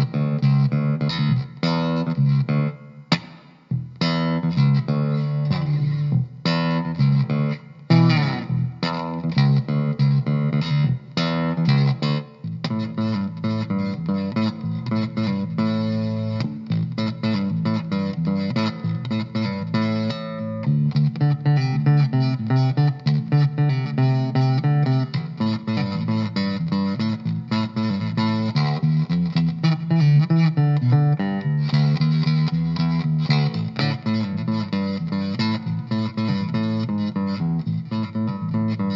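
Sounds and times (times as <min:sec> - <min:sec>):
electric bass guitar notes: 0:00.0 - 0:38.9.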